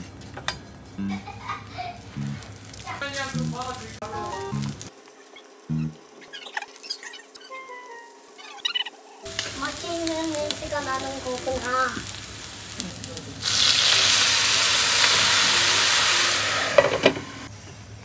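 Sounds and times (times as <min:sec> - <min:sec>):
food sizzling in a hot pan: 0:02.0 - 0:17.7.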